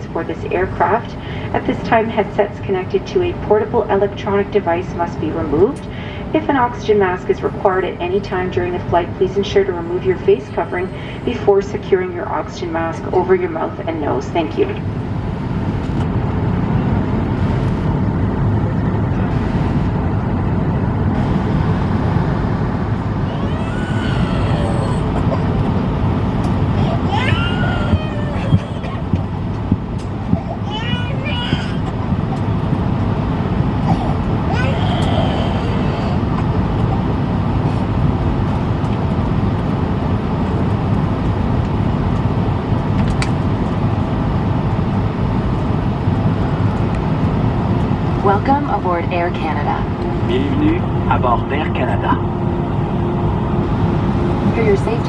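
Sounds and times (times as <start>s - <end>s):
airplane cabin rumble: 0.0s - 55.0s
faint steady hum: 0.0s - 55.0s.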